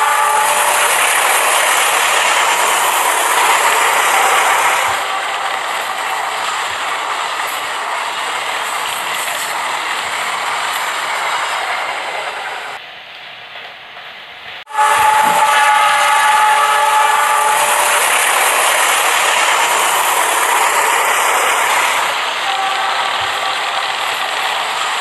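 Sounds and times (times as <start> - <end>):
train rattling past: 0.0 - 25.0.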